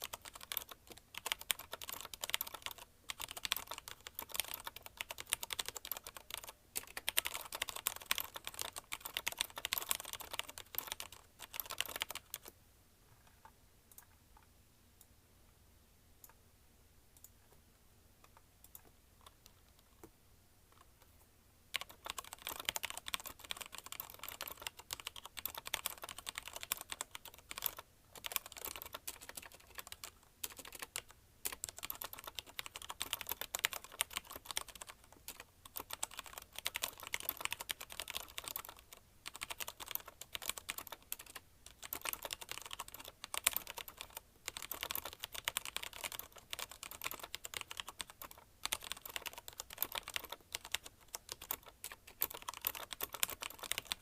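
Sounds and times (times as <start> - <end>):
fast typing on mechanical keyboard: 0.0 - 12.5, 21.7 - 54.0.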